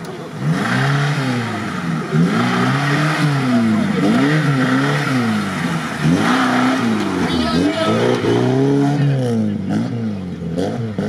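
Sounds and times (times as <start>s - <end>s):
car engine revving hard: 0.2s - 11.0s.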